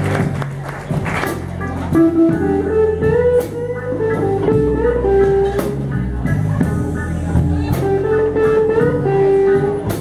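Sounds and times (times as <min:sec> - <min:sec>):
blues guitar lead line: 0:00.0 - 0:10.0
steady bass: 0:00.0 - 0:10.0.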